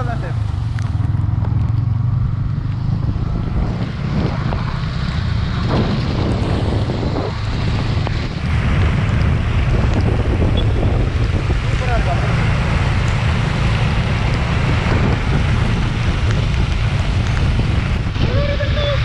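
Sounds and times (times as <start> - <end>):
motorcycle engine hum: 0.0 - 19.0
wind rushing over microphone: 0.0 - 19.0.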